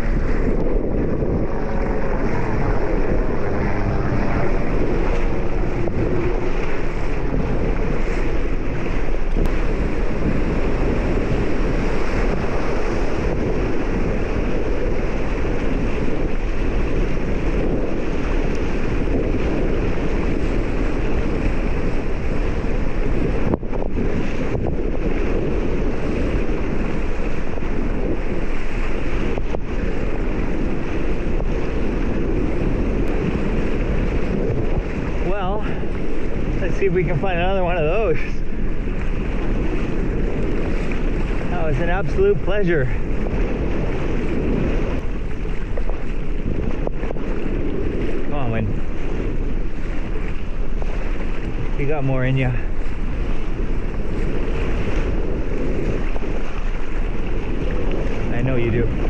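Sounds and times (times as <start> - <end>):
rushing water and surf: 0.0 - 59.0
wind buffeting microphone: 0.0 - 59.0.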